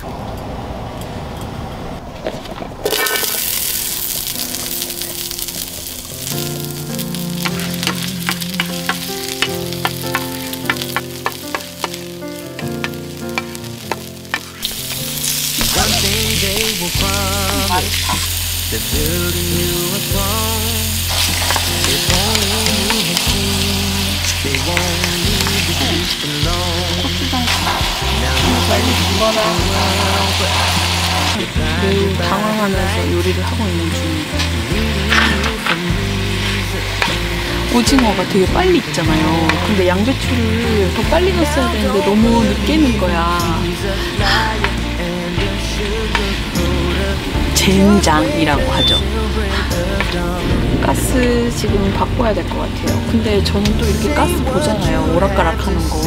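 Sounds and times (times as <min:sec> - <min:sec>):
gas stove burning: 0:02.8 - 0:52.5
hot oil sizzling: 0:02.8 - 0:56.0
background music: 0:02.9 - 0:56.0.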